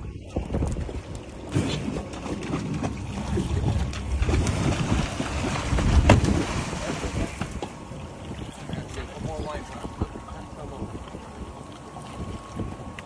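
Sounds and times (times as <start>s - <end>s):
small boat engine running: 0.0s - 13.0s
wind buffeting microphone: 0.0s - 13.0s.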